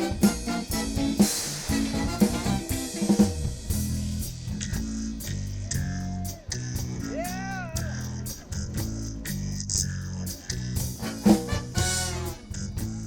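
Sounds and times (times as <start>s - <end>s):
bass guitar: 0.0s - 13.0s
drum kit: 0.0s - 13.0s.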